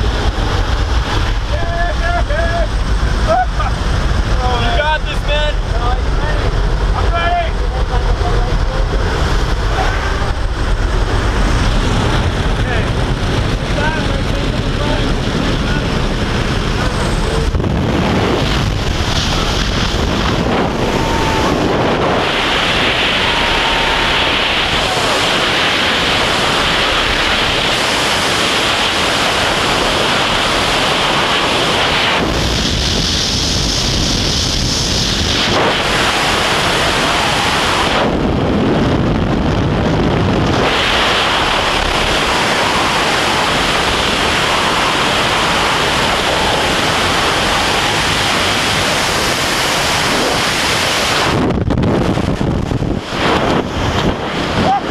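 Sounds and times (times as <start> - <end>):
wind roaring over microphone: 0.0 - 54.9.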